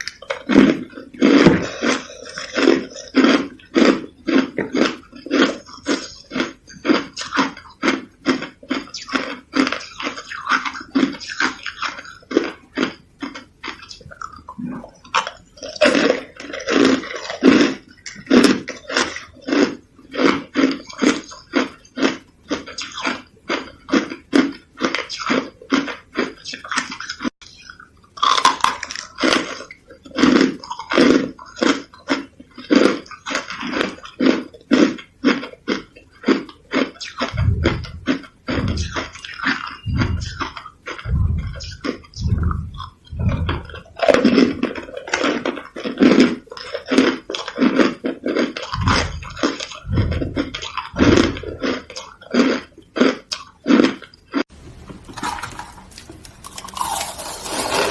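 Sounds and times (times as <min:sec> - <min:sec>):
person chewing crunchy ice: 0:00.0 - 0:54.5, 0:55.1 - 0:57.9.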